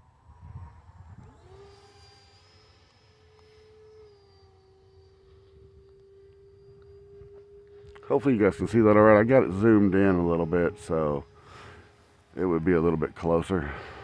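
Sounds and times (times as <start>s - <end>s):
electric ducted fan whining: 0.0s - 14.0s.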